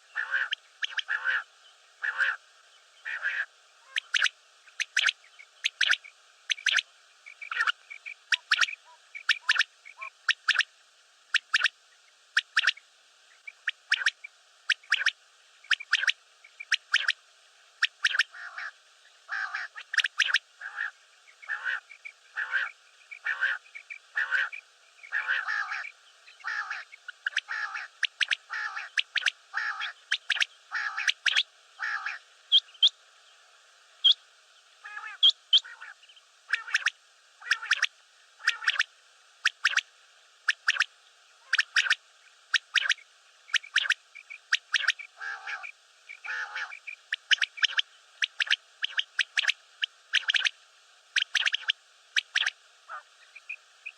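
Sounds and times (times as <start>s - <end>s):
quail calling: 0.0s - 2.4s, 3.0s - 10.7s, 11.3s - 11.7s, 12.4s - 12.8s, 13.4s - 17.2s, 17.8s - 33.0s, 34.8s - 39.8s, 40.5s - 50.5s, 51.2s - 53.9s.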